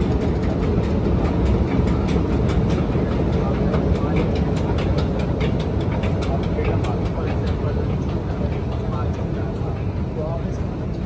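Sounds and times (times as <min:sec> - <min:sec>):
escalator rumbling: 0:00.0 - 0:11.0
station hall hum: 0:00.0 - 0:11.0.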